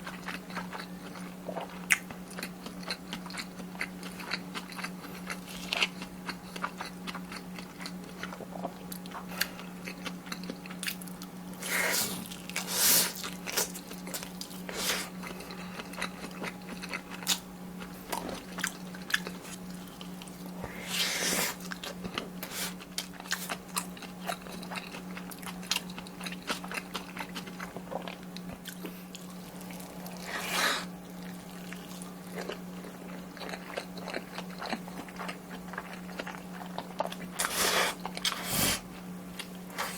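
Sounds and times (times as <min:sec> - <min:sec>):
noisy eating bursts: 0:00.0 - 0:39.9.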